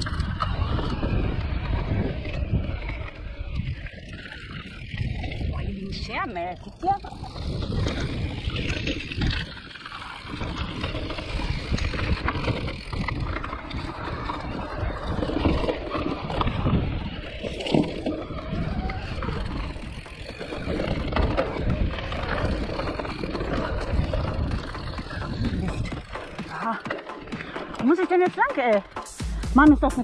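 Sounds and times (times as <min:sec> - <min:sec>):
bike tyres rolling on trail: 0:00.0 - 0:29.2.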